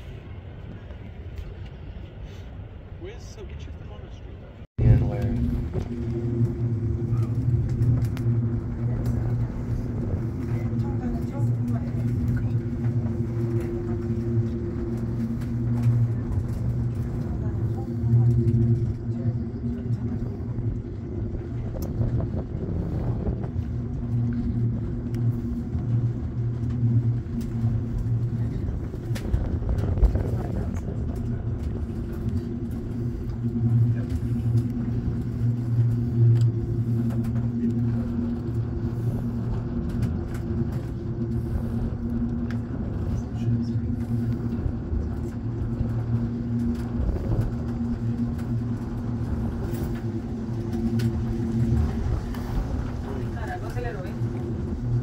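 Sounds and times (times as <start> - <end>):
cable car cabin rumble: 0.0 - 55.0
low hum: 0.0 - 55.0.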